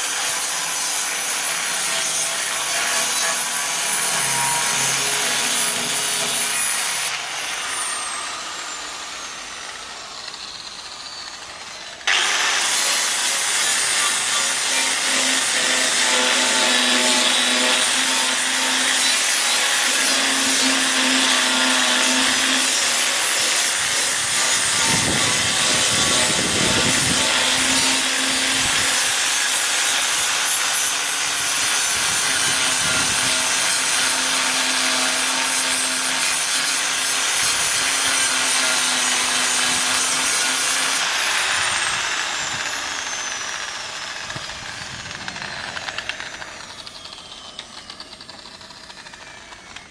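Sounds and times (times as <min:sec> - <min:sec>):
angle grinder grinding metal: 0:00.0 - 0:49.9.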